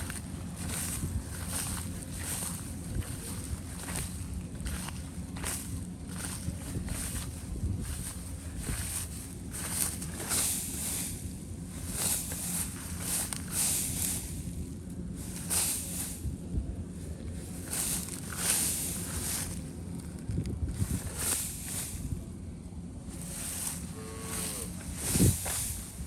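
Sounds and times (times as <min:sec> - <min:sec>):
harvester engine running: 0:00.0 - 0:26.0.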